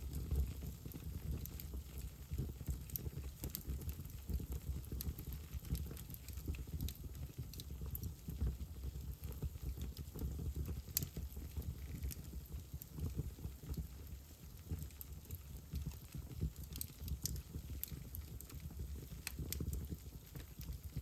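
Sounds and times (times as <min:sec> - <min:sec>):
low steady fire rumble: 0:00.0 - 0:21.0
wood fire crackling: 0:00.0 - 0:21.0.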